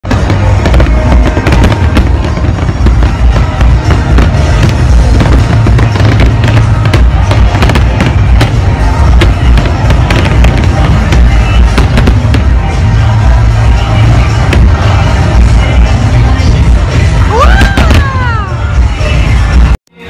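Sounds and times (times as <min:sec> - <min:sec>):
deep booming rumble: 0:00.0 - 0:19.7
fireworks bangs and crackles: 0:00.0 - 0:19.8
music playing: 0:00.0 - 0:20.0.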